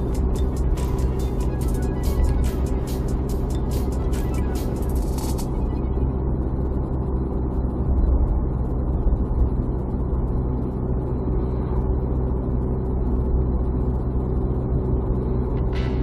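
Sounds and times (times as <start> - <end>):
car cabin engine and road drone: 0.0 - 16.0.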